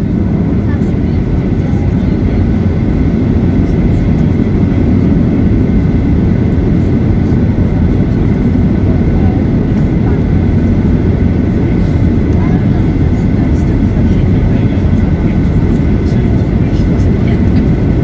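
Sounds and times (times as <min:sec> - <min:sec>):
faint high engine whine: 0:00.0 - 0:18.0
jet engine rumble in cabin: 0:00.0 - 0:18.0.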